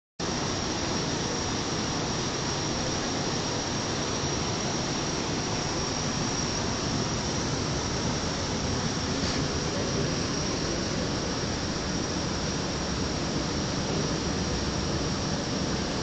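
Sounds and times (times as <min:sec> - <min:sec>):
faint high-pitched whine: 0:00.2 - 0:16.0
steady hiss: 0:00.2 - 0:16.0.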